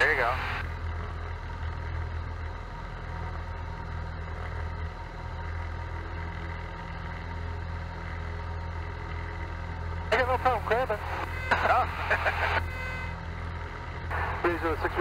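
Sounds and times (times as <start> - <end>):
propeller plane engine drone: 0.0 - 15.0.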